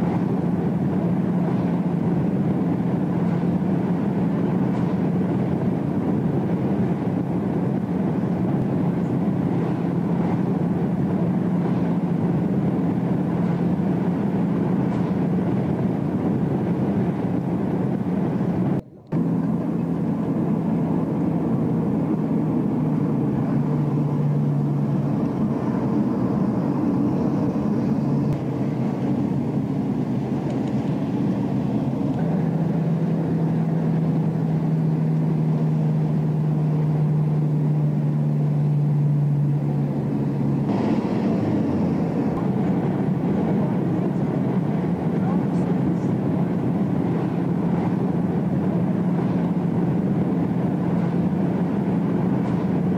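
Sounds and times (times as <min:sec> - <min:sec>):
road and wind rumble: 0:00.0 - 0:52.9
vehicle engine drone: 0:00.0 - 0:52.9.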